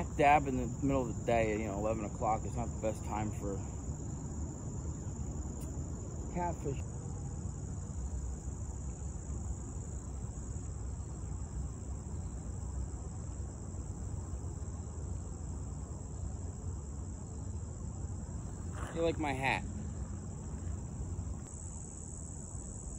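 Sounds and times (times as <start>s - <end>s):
insects chorus: 0.0s - 22.9s.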